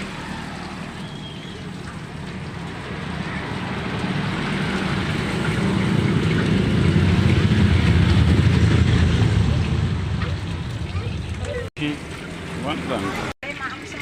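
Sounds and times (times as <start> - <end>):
motor vehicle engine rumble: 0.0 - 13.4.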